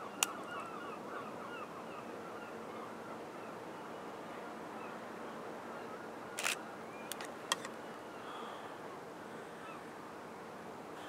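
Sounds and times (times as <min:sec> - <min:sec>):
distant bird calls: 0:00.0 - 0:11.0
waterside ambience: 0:00.0 - 0:11.0.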